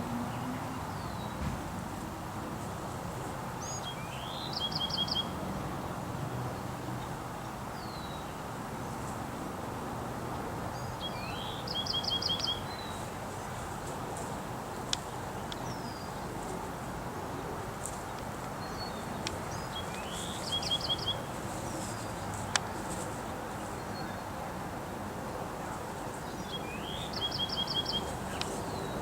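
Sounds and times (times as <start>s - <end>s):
songbird singing: 0.0s - 2.6s, 3.5s - 5.4s, 6.6s - 8.5s, 10.7s - 24.6s, 25.2s - 29.0s
outdoor background hiss: 0.0s - 29.0s.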